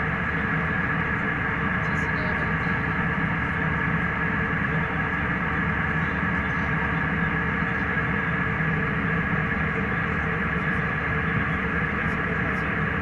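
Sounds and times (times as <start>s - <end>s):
constant high whine: 0.0s - 13.0s
engines and airflow rush: 0.0s - 13.0s.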